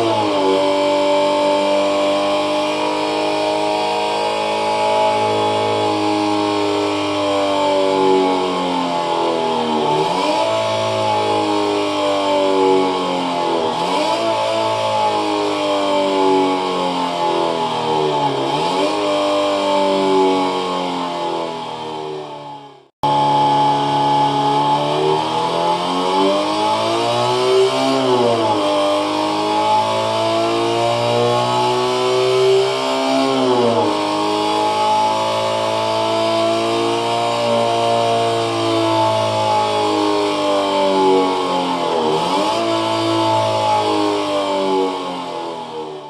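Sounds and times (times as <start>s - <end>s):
synthesized engine revving: 0.0s - 46.0s.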